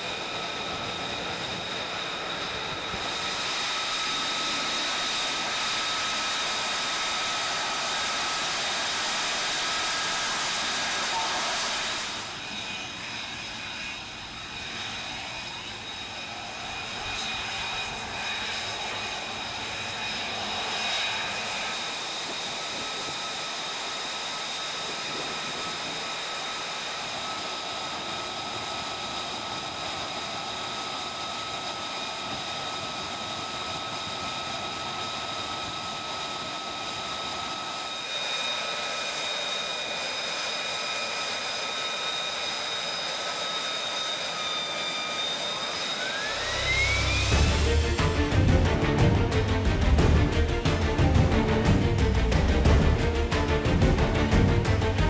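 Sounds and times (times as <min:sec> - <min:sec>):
jet engine roaring and whining: 0:00.0 - 0:55.0.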